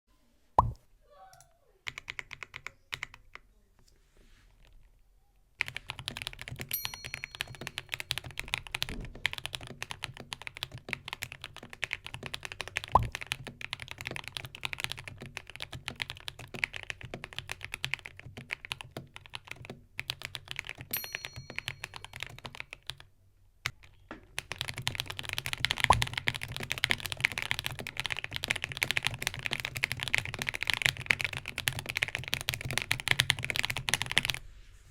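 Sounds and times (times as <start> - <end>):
typing on mechanical keyboard: 1.9 - 3.4, 5.6 - 34.4.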